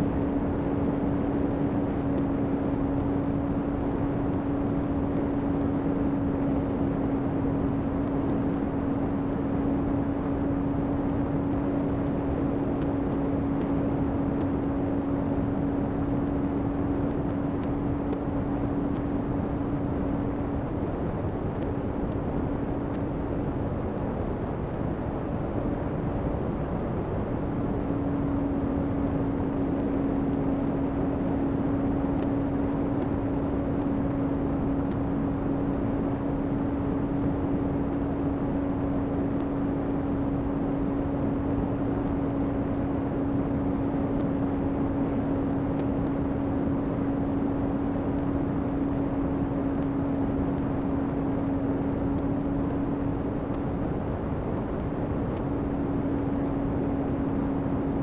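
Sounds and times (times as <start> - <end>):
wind rush over microphone: 0.0 - 58.0.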